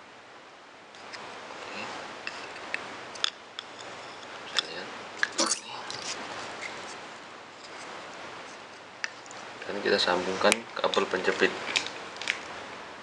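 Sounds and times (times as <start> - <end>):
rustling of handled wires: 1.0 - 12.6.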